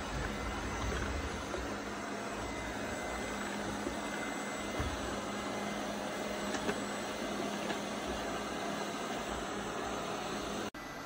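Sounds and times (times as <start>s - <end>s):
robot vacuum whirring: 0.0s - 10.7s.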